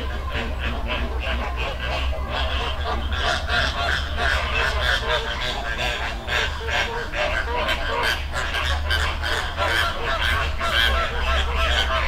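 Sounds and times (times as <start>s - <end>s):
flamingos honking and chattering: 0.0s - 12.0s
steady low rumble: 0.0s - 12.0s.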